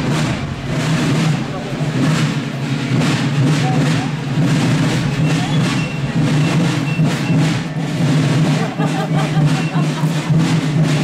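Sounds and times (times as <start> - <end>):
chatter of onlookers: 0.0 - 11.0
marching drums beating: 0.0 - 11.0.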